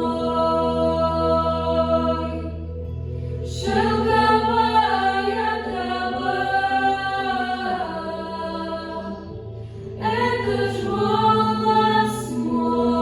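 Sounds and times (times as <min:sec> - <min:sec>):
vocal ensemble singing: 0:00.0 - 0:13.0.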